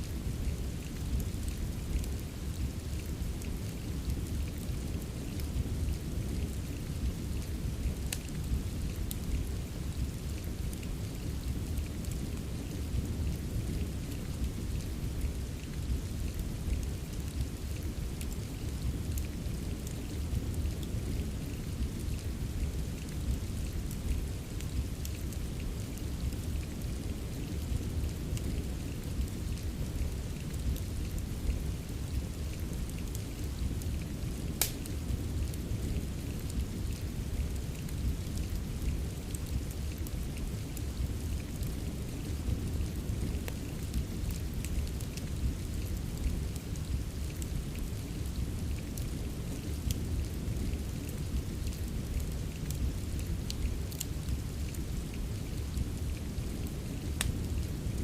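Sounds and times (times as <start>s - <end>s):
rain rushing: 0.0s - 58.0s
fireplace crackling and popping: 0.1s - 58.0s.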